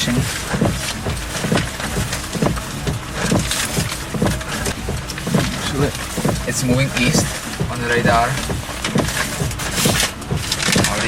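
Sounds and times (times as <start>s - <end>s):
road and rain noise: 0.0s - 11.0s
windscreen wiper swish: 0.0s - 11.0s.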